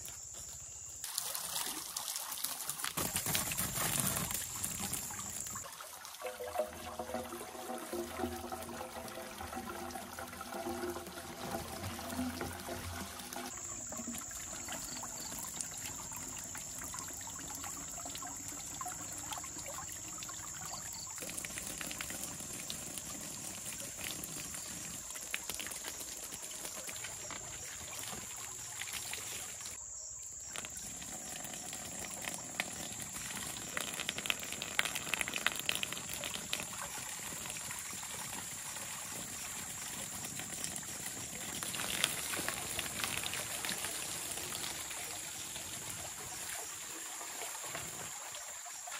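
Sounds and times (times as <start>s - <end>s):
water trickling from a pipe: 1.0s - 48.9s.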